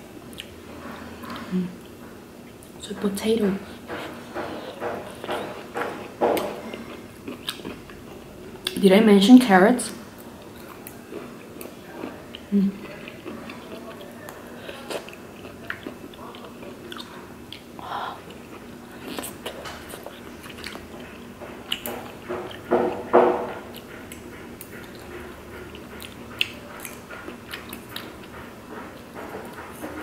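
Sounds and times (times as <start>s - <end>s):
chewing rice cakes: 3.8s - 8.8s, 10.2s - 30.0s.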